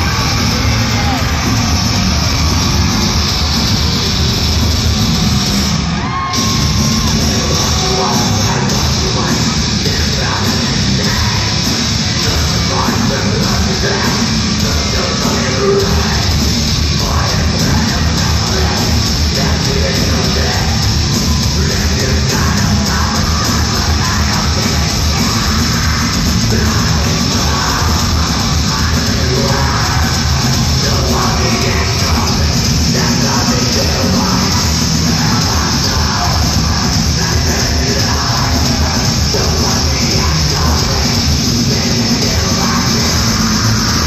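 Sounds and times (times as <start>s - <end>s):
distorted guitars: 0.0s - 44.0s
fast drum beat: 0.0s - 44.0s
heavy metal band playing live: 0.0s - 44.0s
singer's vocals: 0.0s - 44.0s.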